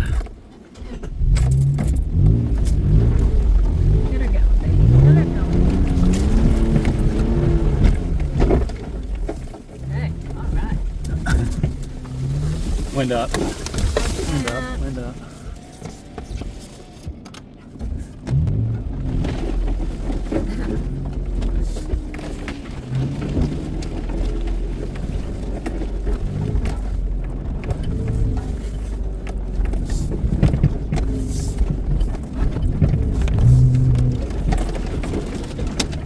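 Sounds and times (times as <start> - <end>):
truck engine revving: 1.1 - 16.5, 17.8 - 36.0.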